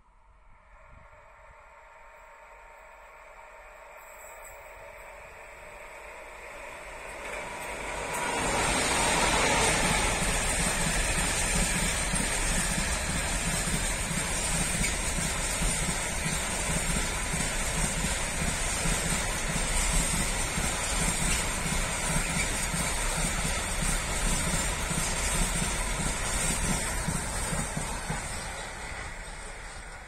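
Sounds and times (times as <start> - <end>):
train wheels rumbling on rails: 3.7 - 30.0.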